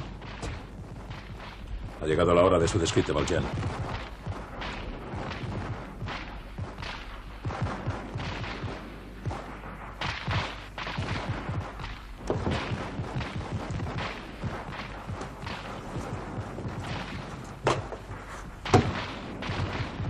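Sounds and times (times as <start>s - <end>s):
gunshots: 0.0s - 20.0s.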